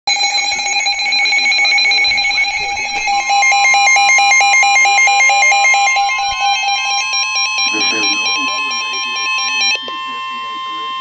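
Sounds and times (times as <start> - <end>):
rapidly pulsing beeps: 0.1 - 11.0
steady high alarm tone: 0.1 - 11.0
second steady tone: 0.2 - 11.0.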